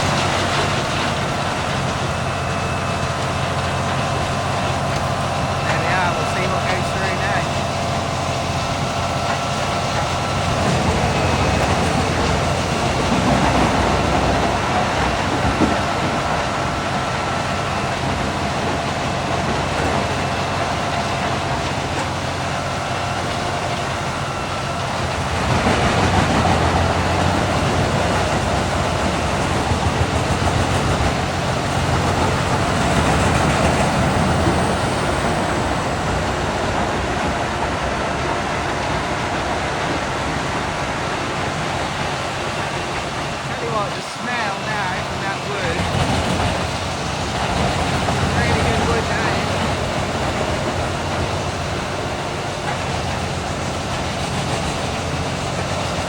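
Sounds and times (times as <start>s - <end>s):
wood chipper running: 0.0s - 56.0s.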